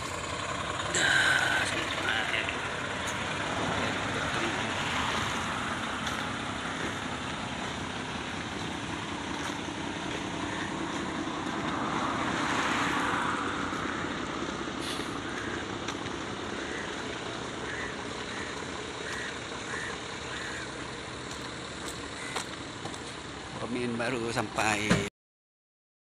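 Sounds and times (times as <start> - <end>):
diesel trucks idling: 0.0 - 25.1
road traffic: 0.0 - 25.1.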